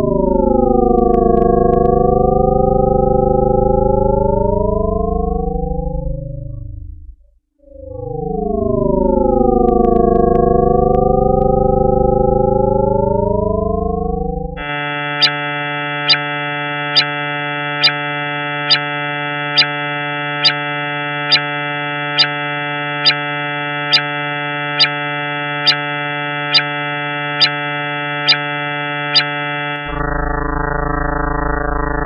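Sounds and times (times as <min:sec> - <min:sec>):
electronic drone of stacked tones: 0:00.0 - 0:06.5, 0:07.8 - 0:32.0
low hum: 0:00.0 - 0:16.3, 0:16.9 - 0:32.0.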